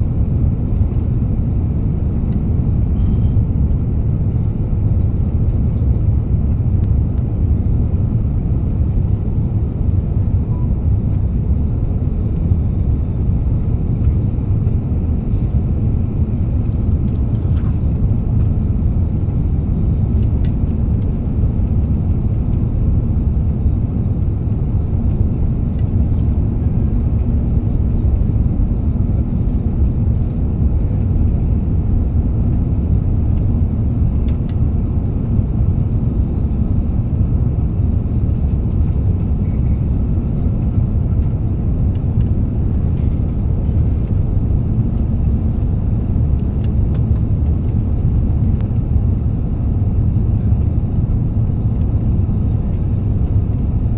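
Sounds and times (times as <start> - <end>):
aircraft cabin rumble: 0.0 - 53.9.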